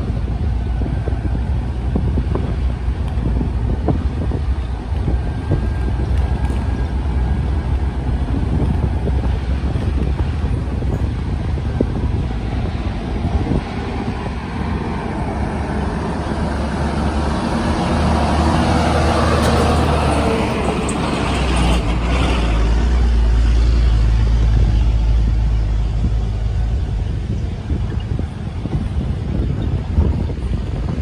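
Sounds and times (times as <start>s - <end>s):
car engine and tyre rumble: 0.0s - 31.0s
truck passing: 0.0s - 31.0s.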